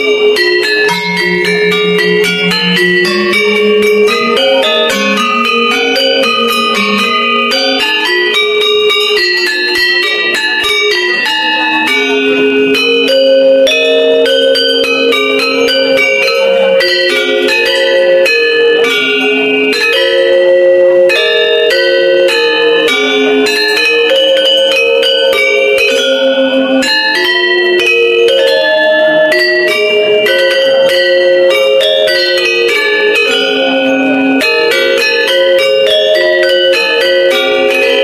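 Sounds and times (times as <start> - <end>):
metallophone ensemble playing: 0.0 - 38.0.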